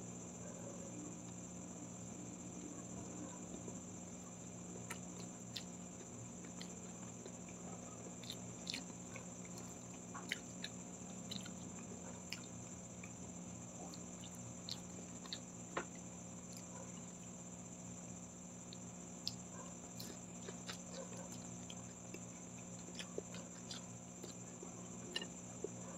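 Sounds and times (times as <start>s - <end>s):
steady low hum: 0.0s - 25.9s
chewing food: 2.2s - 25.9s.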